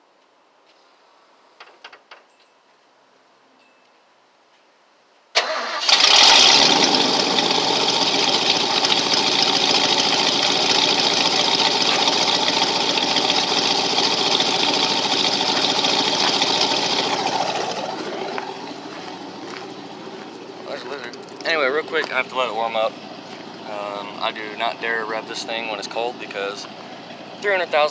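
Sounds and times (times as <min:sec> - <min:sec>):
truck engine cranking: 0:05.4 - 0:27.9
truck engine fast idle: 0:05.4 - 0:27.9.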